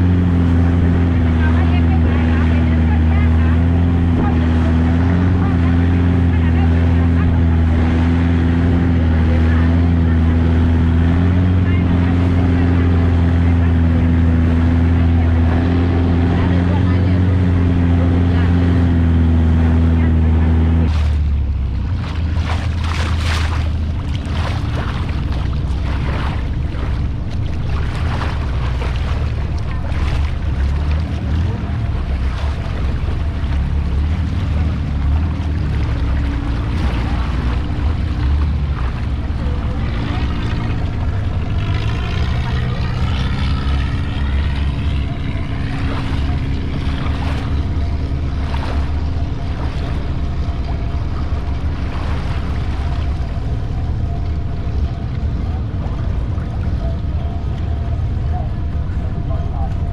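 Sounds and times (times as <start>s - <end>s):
boat engine droning: 0.0s - 59.9s
water splashing against hull: 0.0s - 59.9s.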